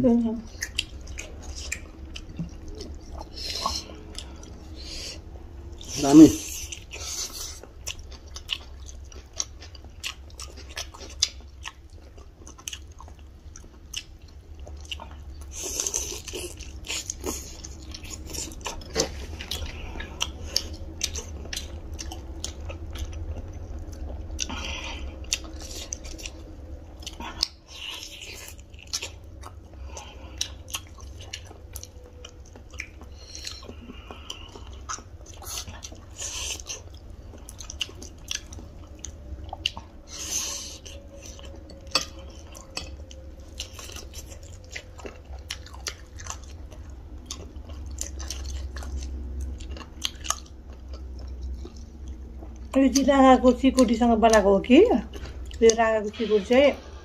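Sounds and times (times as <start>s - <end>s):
people chewing food: 0.0s - 57.0s
steady low hum: 0.0s - 57.0s
clicking and crunching mouth sounds: 0.5s - 53.1s.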